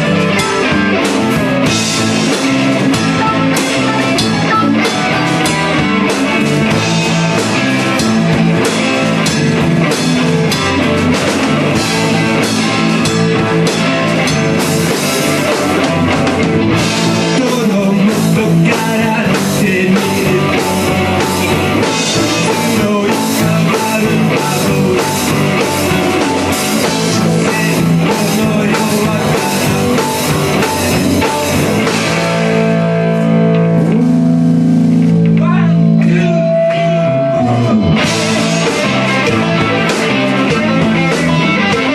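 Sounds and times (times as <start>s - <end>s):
rock music with guitar and drums: 0.0s - 41.9s.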